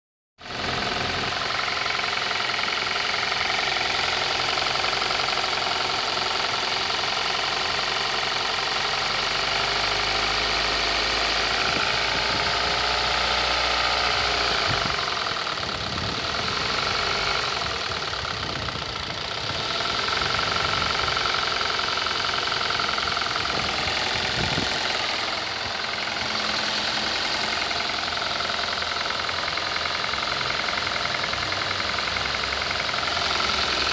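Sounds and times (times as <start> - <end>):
car engine idling: 0.4 - 33.9
engine knocking: 0.4 - 33.9.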